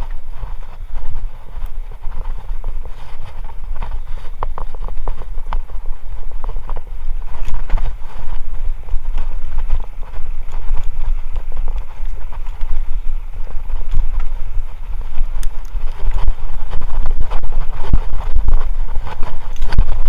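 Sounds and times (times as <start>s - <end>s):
bike knocking and rattling: 0.0s - 20.0s
wind and tyres rumbling: 0.0s - 20.0s.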